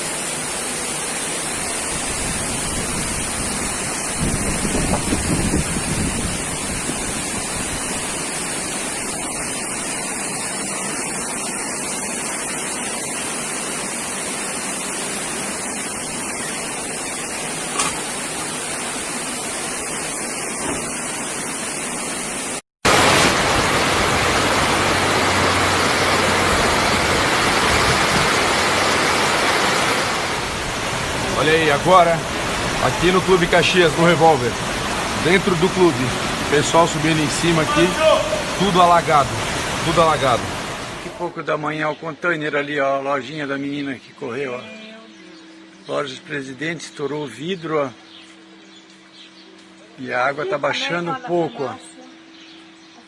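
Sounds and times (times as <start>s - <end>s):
water rushing: 0.0s - 48.0s.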